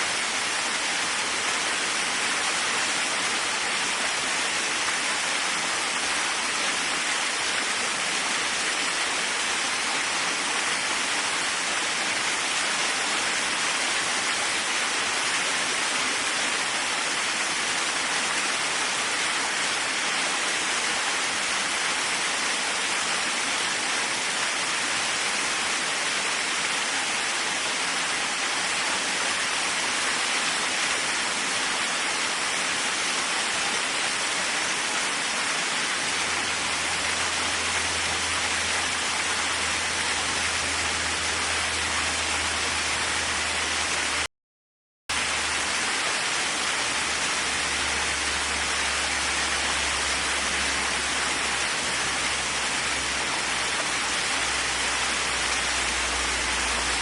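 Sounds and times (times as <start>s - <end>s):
waterfall rushing: 0.0s - 44.3s, 45.1s - 57.0s.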